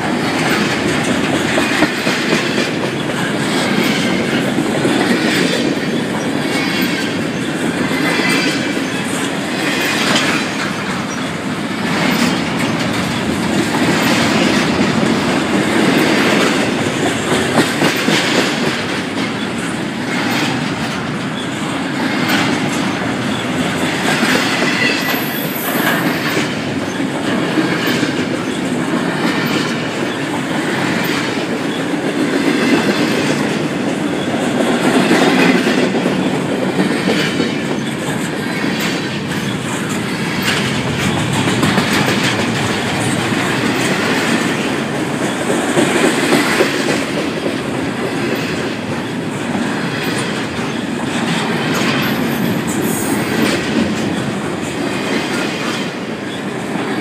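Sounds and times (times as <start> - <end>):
freight train rumbling: 0.0 - 57.0
wheels clacking over rail joints: 0.0 - 57.0.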